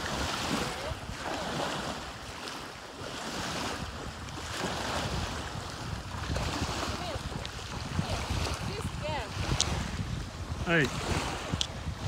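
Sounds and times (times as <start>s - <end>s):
small waves breaking on shore: 0.0s - 12.0s
wind buffeting microphone: 0.0s - 12.0s.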